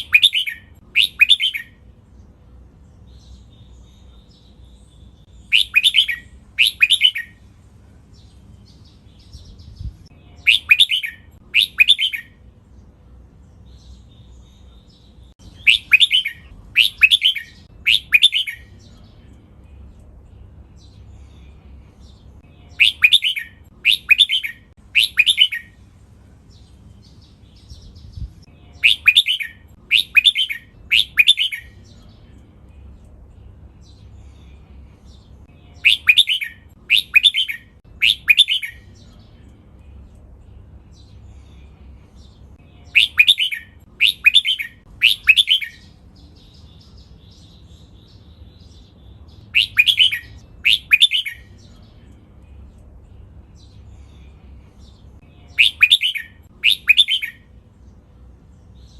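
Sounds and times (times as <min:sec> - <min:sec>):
bulbul singing sharp phrases: 0:00.0 - 0:58.9.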